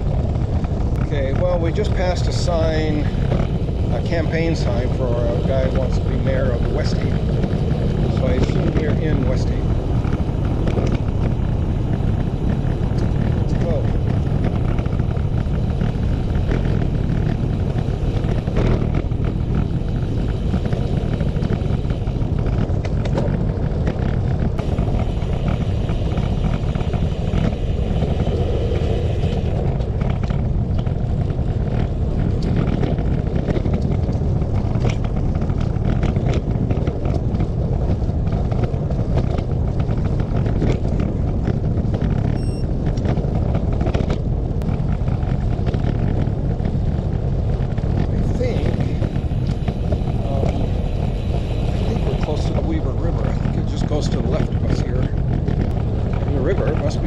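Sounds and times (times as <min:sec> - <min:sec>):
bicycle clicks and rattles: 0:00.0 - 0:57.0
wind rushing over microphone: 0:00.0 - 0:57.0.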